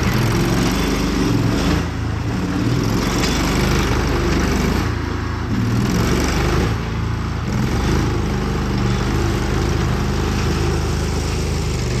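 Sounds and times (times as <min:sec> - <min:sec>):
small gas engine running: 0:00.0 - 0:12.0.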